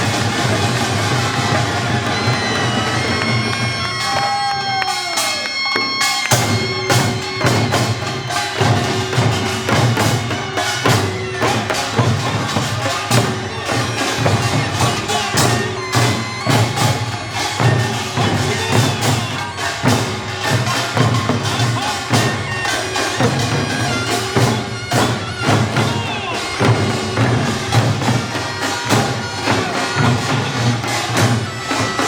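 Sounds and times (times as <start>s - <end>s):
drums and gongs beating: 0.0s - 32.0s
reedy shawm melody: 0.0s - 32.0s.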